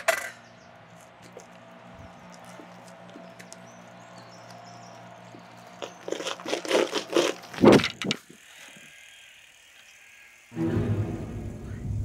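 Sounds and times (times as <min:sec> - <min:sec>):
bicycle clicking and rattling: 0:00.0 - 0:10.5.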